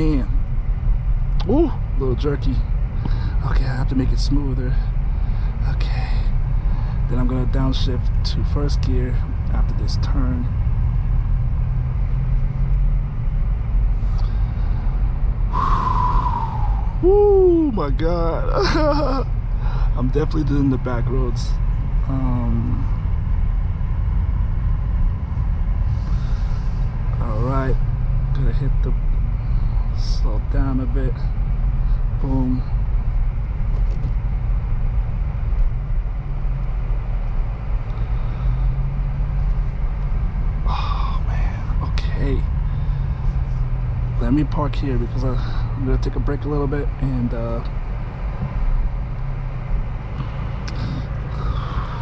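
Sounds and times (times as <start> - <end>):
car engine at low revs: 0.0 - 52.0
road rumble: 0.0 - 52.0.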